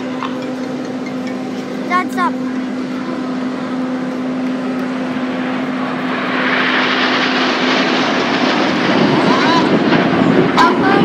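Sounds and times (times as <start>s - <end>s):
jet engines rushing overhead: 0.0s - 11.0s.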